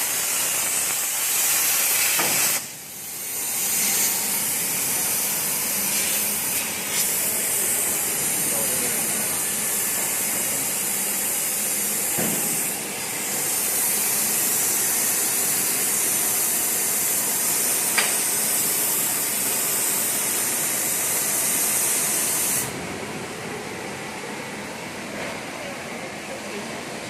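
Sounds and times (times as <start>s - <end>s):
plasma torch hissing: 0.0s - 22.8s.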